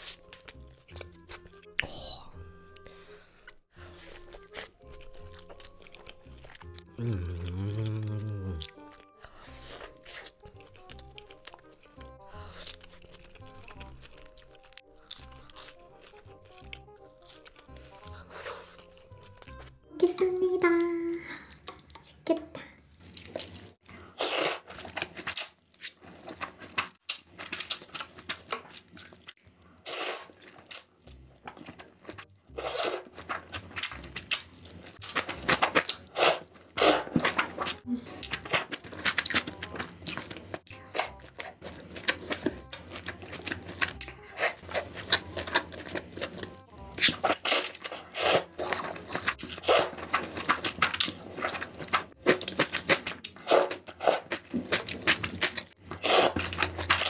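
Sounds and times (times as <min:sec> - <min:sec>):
person slurping and chewing noodles: 0:00.0 - 0:19.8, 0:22.8 - 0:57.0.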